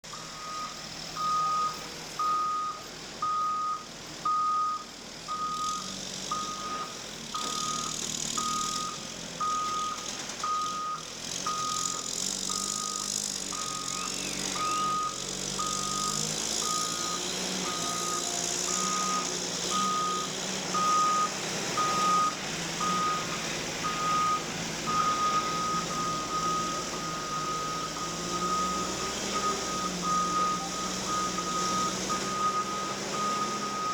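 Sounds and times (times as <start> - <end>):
forklift engine running: 0.0 - 33.9
forklift reversing alarm beeping: 0.1 - 33.9.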